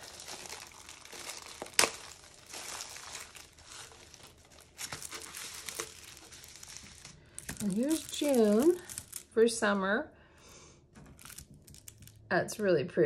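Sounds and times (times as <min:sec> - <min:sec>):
plastic packaging crinkling: 0:00.0 - 0:09.4, 0:11.0 - 0:12.3.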